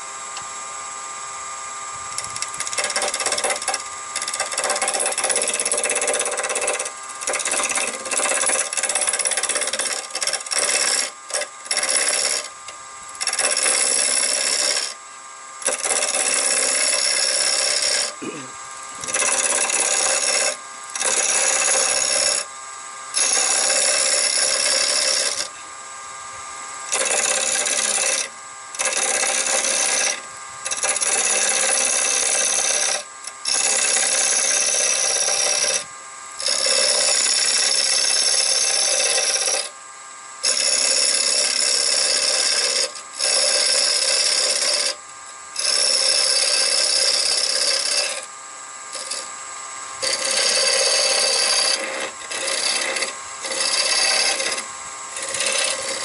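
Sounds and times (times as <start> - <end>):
lathe humming: 0.0 - 56.0
gouge cutting spinning wood: 1.1 - 25.7, 26.6 - 39.8, 40.4 - 56.0.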